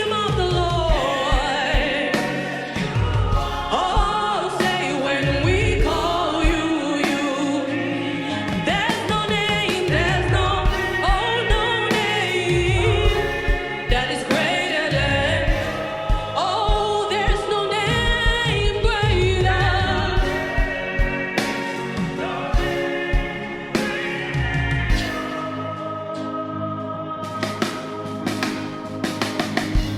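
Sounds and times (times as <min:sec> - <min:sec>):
steady drum beat: 0:00.0 - 0:07.5, 0:08.3 - 0:25.6, 0:27.4 - 0:29.9
gospel singers with band: 0:00.0 - 0:29.9.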